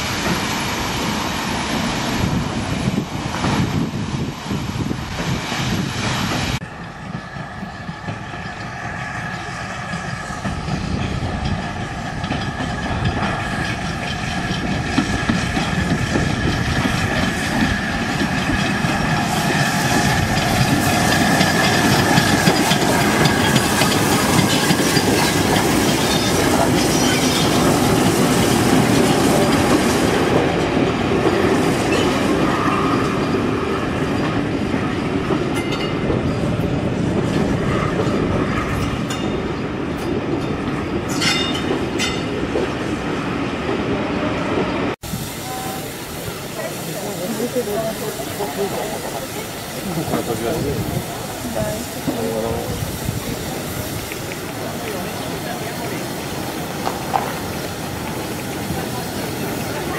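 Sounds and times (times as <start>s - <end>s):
train wheels clicking over rail joints: 6.2s - 43.1s, 46.7s - 59.9s.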